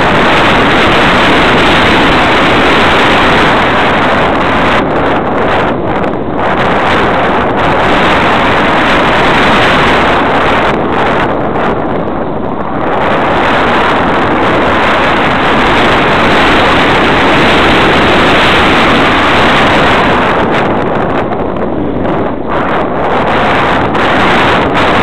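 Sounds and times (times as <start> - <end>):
glider motor and propeller: 0.0 - 25.0
rush of airflow: 0.0 - 25.0.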